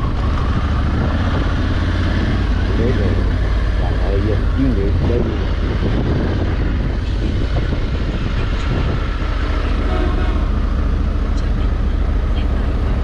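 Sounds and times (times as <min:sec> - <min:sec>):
wind rush: 0:00.0 - 0:11.3
motorcycle engine rumbling: 0:00.0 - 0:13.0.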